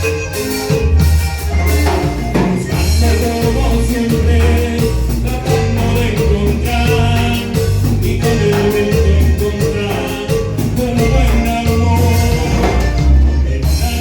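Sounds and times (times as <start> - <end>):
latin dance band music: 0.0 - 14.0
person singing: 2.3 - 14.0.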